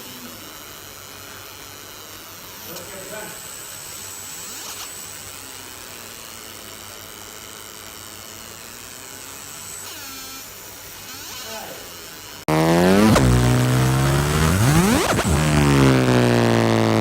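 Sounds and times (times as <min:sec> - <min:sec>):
laser machine buzzing whine: 0:00.0 - 0:17.0.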